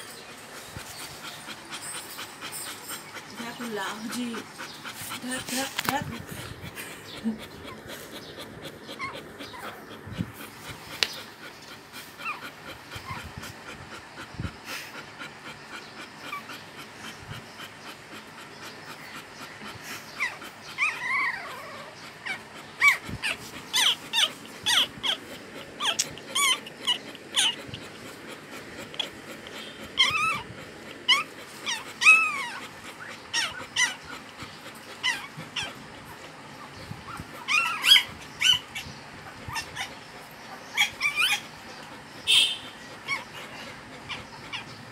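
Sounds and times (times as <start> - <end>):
puppies squeaking and whimpering: 0.0 - 14.2, 18.9 - 44.9.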